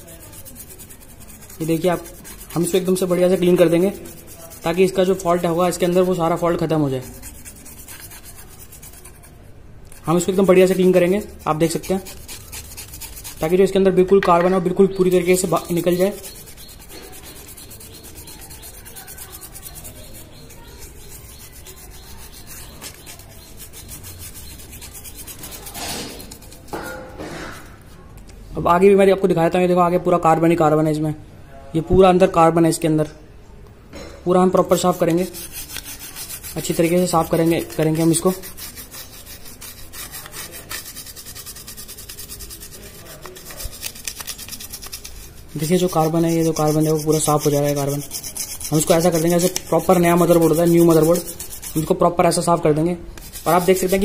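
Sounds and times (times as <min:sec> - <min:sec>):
swab scrubbing circuit board: 0:00.0 - 0:09.4, 0:10.0 - 0:13.8, 0:14.9 - 0:27.0, 0:34.7 - 0:52.5, 0:53.2 - 0:54.0.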